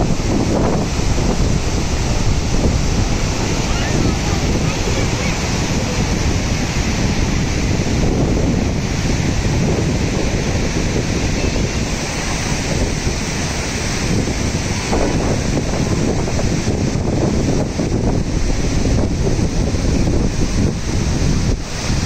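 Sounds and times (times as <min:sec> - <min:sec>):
river rushing over rocks: 0:00.0 - 0:22.0
wind buffeting microphone: 0:00.0 - 0:22.0.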